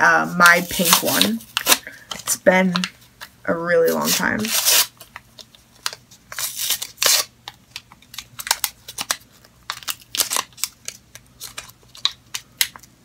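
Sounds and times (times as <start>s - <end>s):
plastic packaging crinkling: 0.4s - 2.9s, 4.0s - 13.0s.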